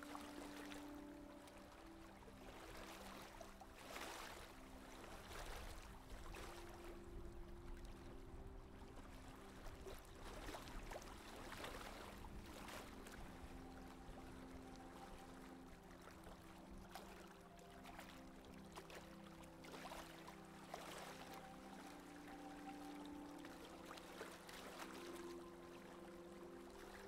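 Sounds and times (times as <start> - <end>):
seawater splashing along hull: 0.0 - 27.0.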